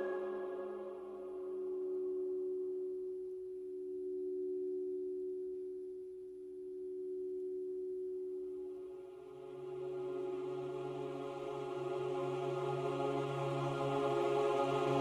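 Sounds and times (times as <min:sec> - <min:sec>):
sustained pure tone drone: 0:00.0 - 0:15.0.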